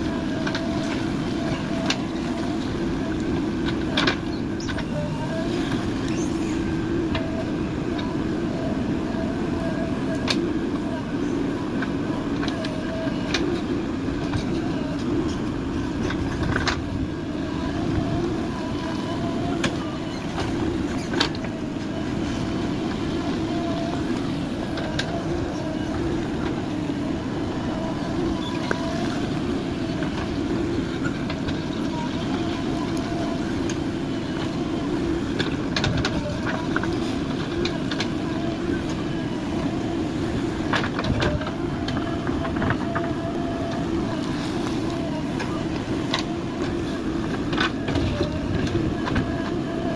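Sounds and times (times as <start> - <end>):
diesel engine running: 0.0 - 49.9
faint wavering whine: 0.0 - 49.9.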